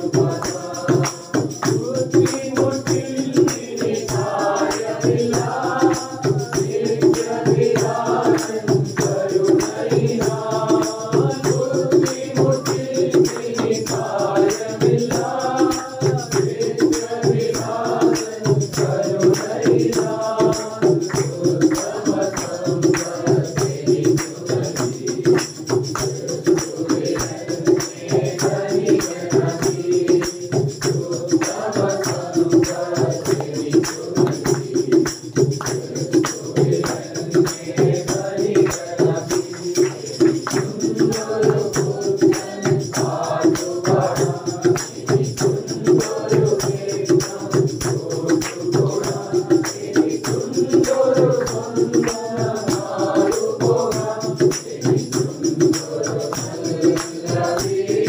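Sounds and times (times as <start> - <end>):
tambourine beat: 0.0 - 58.0
voices singing together: 0.0 - 58.0.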